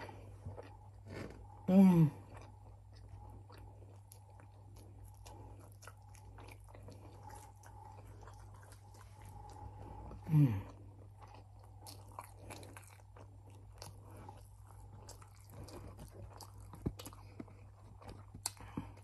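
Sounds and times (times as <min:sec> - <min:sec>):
faint low hum: 0:00.0 - 0:19.0
person chewing food: 0:00.0 - 0:19.0.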